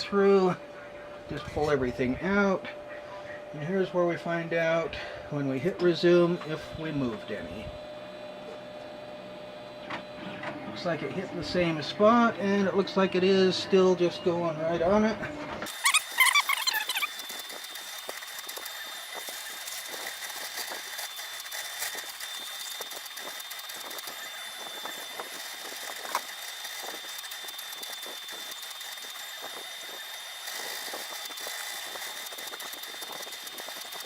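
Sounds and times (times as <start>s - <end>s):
three d printer motors whining: 5.0s - 14.4s, 15.5s - 34.0s.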